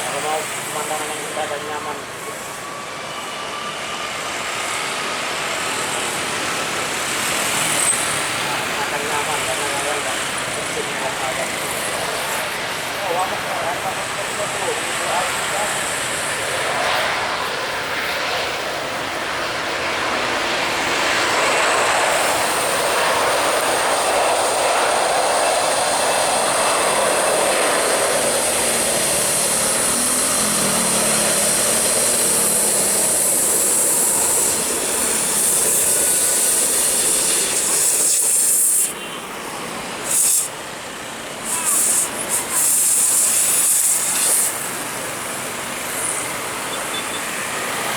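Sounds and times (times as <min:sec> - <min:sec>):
jet engines rushing with high whine: 0:00.0 - 0:47.9.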